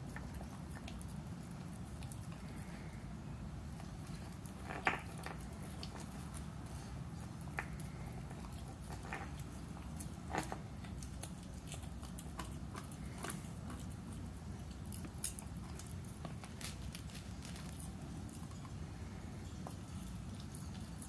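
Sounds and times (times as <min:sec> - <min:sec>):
puppy chewing a bone: 0:00.0 - 0:21.0.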